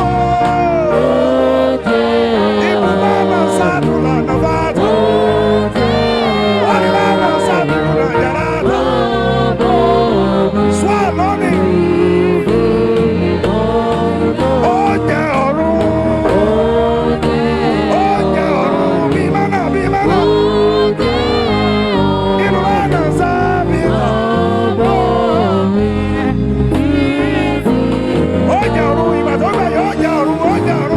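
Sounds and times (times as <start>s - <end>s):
instrumental backing music: 0.0s - 30.9s
person singing gospel: 0.0s - 30.9s.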